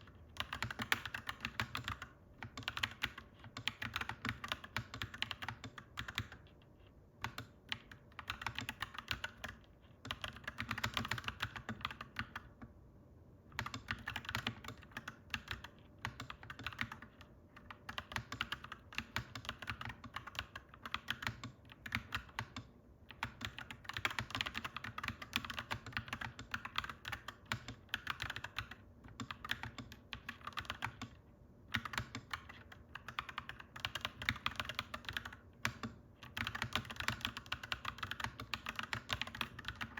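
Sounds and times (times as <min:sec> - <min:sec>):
mechanical keyboard typing: 0:00.1 - 0:06.6, 0:07.2 - 0:12.7, 0:13.5 - 0:39.9.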